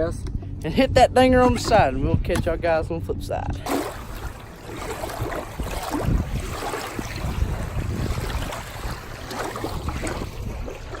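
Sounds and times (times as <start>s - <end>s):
gusty wind on microphone: 0.0s - 11.0s.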